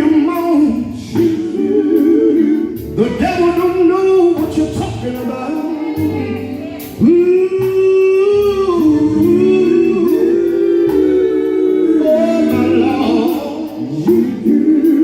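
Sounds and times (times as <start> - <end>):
men singing in close harmony: 0.0 - 6.0, 7.0 - 15.0
band with steady beat: 0.0 - 15.0.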